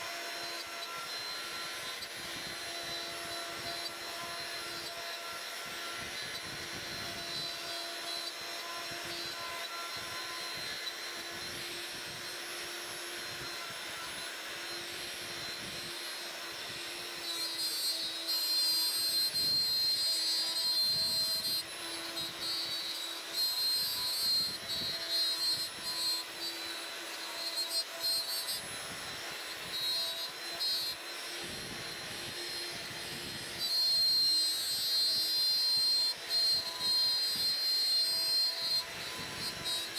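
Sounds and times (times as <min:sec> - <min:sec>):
router spindle cutting wood: 0:00.0 - 0:39.9
shop vacuum suction: 0:00.0 - 0:39.9.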